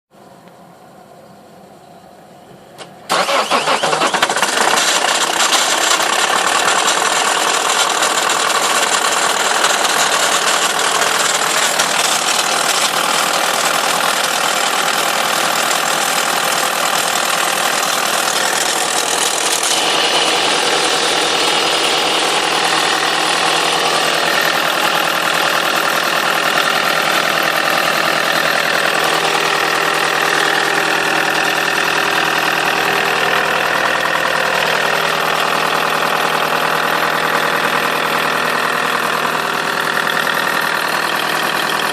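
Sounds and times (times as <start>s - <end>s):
diesel engine idling: 0.2s - 41.9s
strange engine noise: 0.2s - 41.9s.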